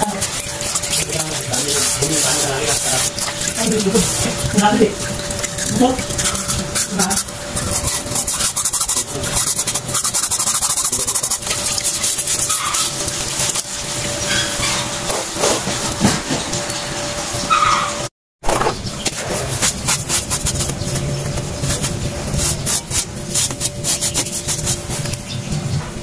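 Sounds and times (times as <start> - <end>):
hands rubbing and scraping metal: 0.0 - 16.0, 19.0 - 25.4.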